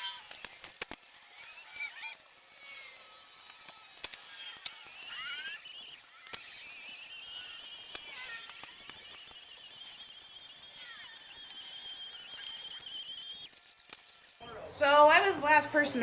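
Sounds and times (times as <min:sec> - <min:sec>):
metal tools clinking: 0:00.0 - 0:14.5
faint high-pitched squeaks: 0:00.0 - 0:15.0.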